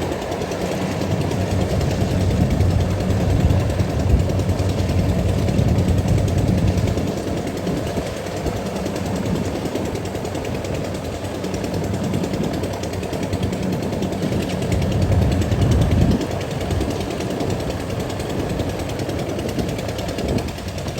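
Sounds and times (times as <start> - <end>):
combine harvester engine humming: 0.0 - 20.9.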